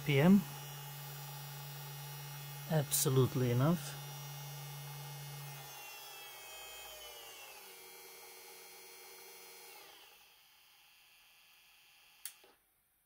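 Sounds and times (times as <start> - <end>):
small electric motor whine: 0.0 - 12.5.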